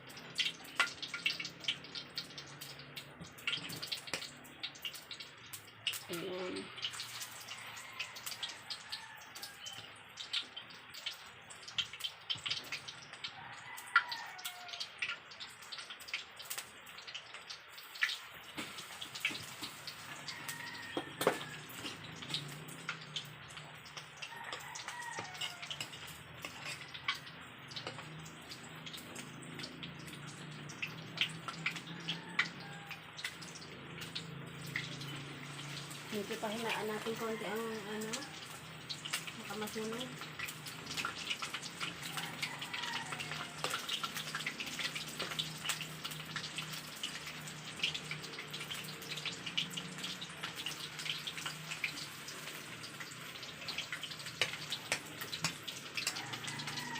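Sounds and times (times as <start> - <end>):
chicken frying in hot oil: 0.0 - 56.9.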